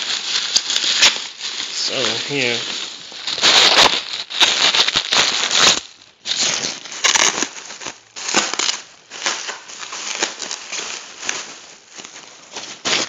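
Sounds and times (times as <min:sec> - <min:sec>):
packing peanuts and plastic rustling: 0:00.0 - 0:13.0.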